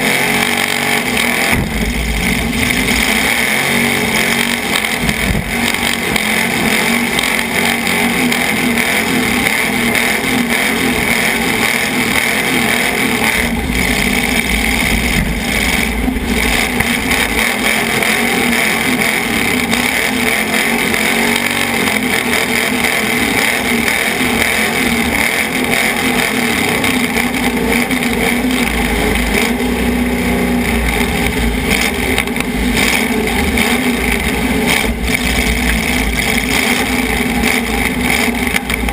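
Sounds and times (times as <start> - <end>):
car engine revving hard: 0.0 - 38.9.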